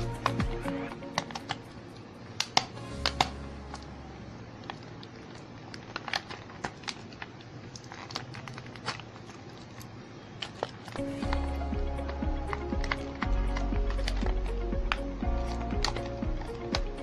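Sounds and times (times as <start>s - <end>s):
plastic packaging being handled: 0.0s - 17.0s.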